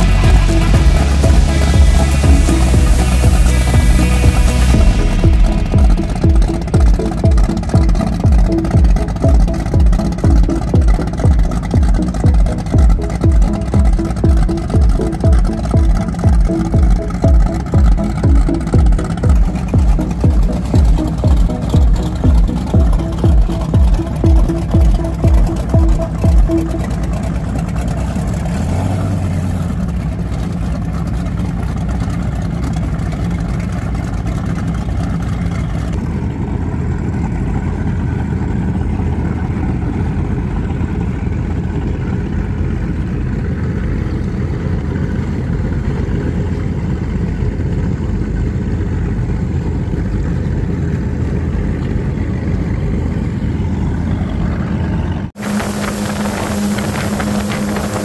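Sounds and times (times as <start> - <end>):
boat engine higher hum: 0.0 - 58.0
boat engines running low: 0.0 - 58.0.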